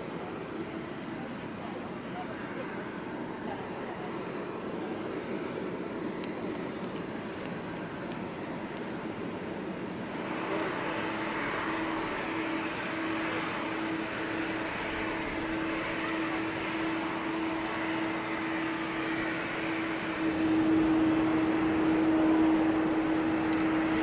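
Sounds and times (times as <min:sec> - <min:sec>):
jet engines spooling up: 0:00.1 - 0:24.0.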